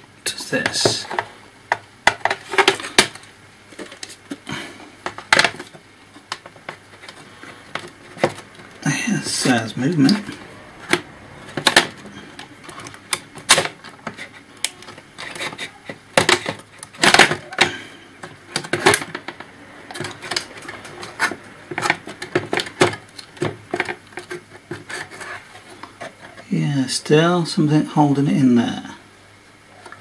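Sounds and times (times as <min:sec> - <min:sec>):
laptop parts clicking and knocking: 0:00.6 - 0:08.7, 0:09.9 - 0:26.4.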